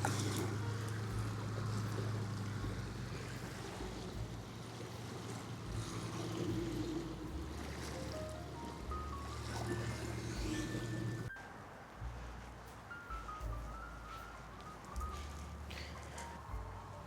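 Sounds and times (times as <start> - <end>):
soft background music: 0.0 - 17.0
wind and water hiss: 0.0 - 17.0.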